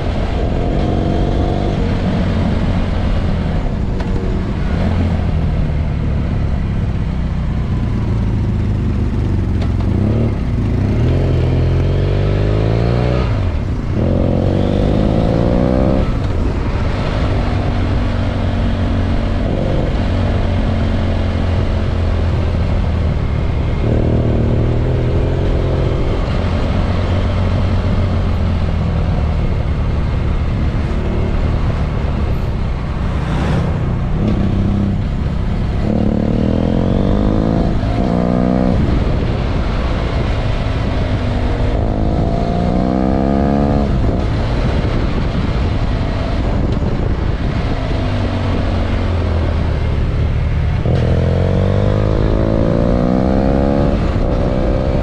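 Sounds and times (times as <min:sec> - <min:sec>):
motorcycle engine accelerating: 0:00.0 - 0:55.0
wind noise: 0:00.0 - 0:55.0.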